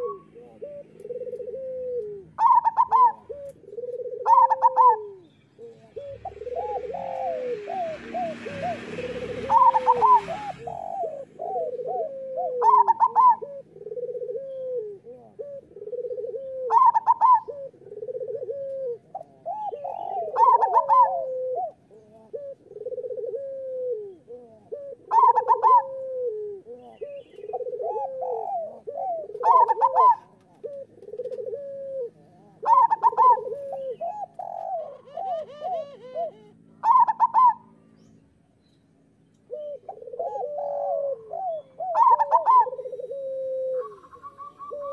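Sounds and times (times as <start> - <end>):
doves cooing: 0.0 - 37.9, 39.4 - 44.9.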